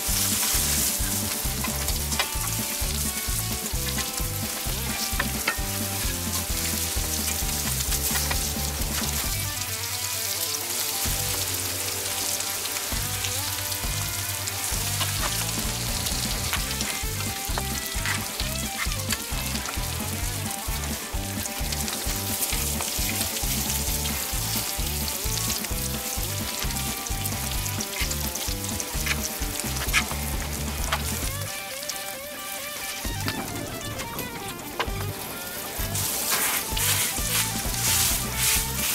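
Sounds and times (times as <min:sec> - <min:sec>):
music with pulsing bass: 0:00.0 - 0:09.6, 0:12.9 - 0:31.6, 0:33.0 - 0:38.9
food sizzling on griddle: 0:00.0 - 0:38.9.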